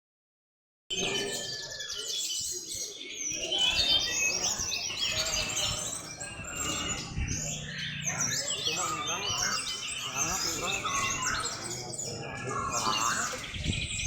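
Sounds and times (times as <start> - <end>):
songbirds chirping and trilling: 0.9 - 14.0.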